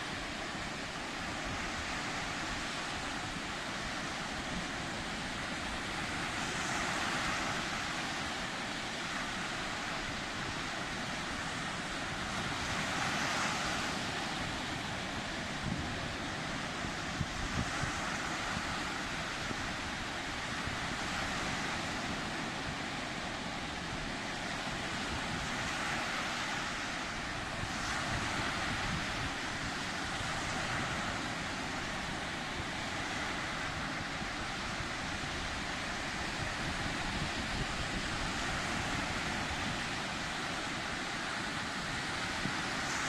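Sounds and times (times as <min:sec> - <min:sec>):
sea waves breaking: 0:00.0 - 0:43.0.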